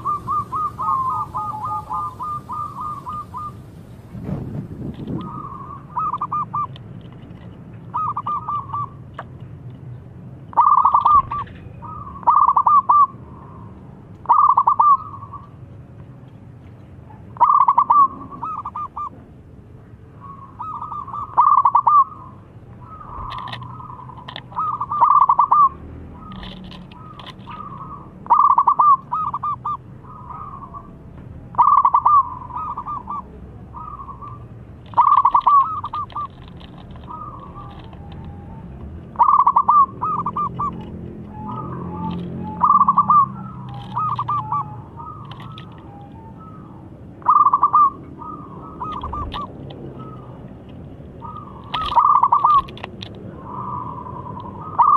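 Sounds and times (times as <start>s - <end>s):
dove cooing: 0.0s - 3.7s, 5.0s - 6.8s, 7.9s - 9.0s, 10.5s - 13.6s, 14.2s - 15.5s, 17.4s - 19.2s, 20.2s - 54.9s.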